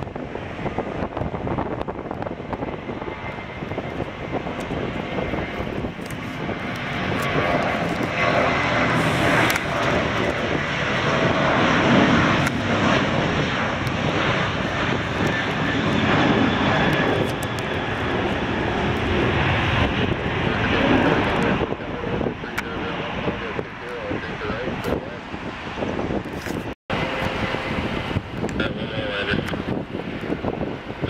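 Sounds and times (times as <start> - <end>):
jet engines passing: 0.0 - 31.0.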